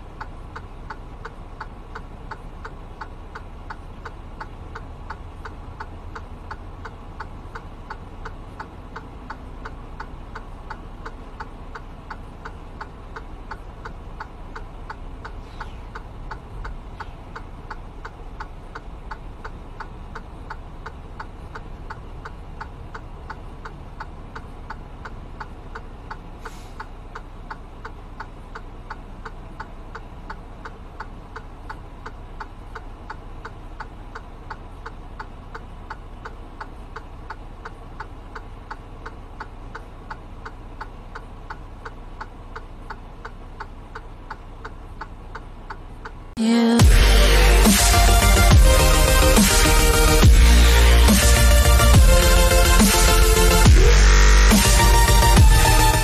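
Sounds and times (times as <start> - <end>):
idling truck engine hum: 0.0 - 56.0.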